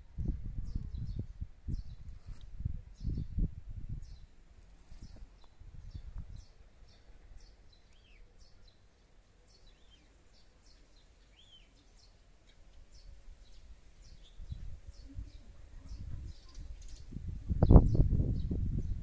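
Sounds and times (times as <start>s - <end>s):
faint birdsong chirps: 0.0s - 19.0s.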